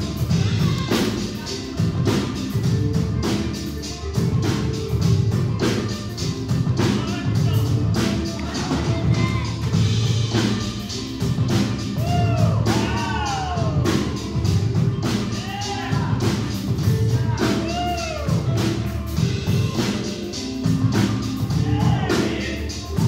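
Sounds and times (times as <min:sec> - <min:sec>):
gliding notes: 0:00.0 - 0:23.0
music over loudspeakers: 0:00.0 - 0:23.0
steady drum beat: 0:00.0 - 0:23.0.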